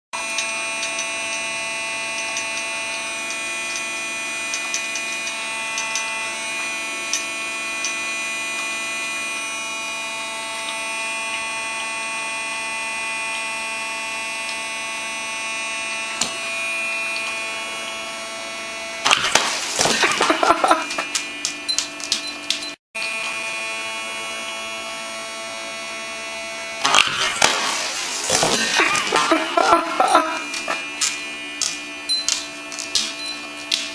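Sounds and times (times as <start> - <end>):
small fan motor whirring: 0.2 - 33.9.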